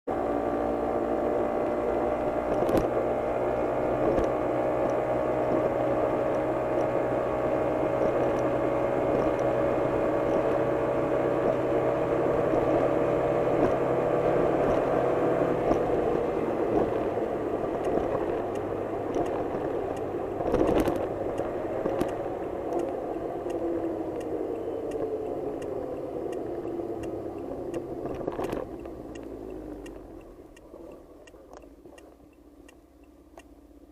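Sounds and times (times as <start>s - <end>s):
engine and road hum: 0.0s - 33.9s
faint regular ticking: 2.4s - 33.9s.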